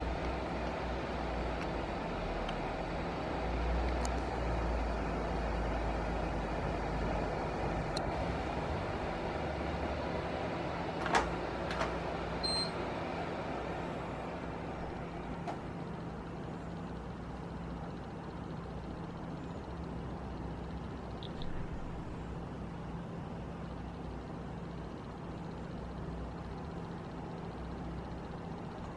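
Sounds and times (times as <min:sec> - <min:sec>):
steady background hum: 0:00.0 - 0:28.9.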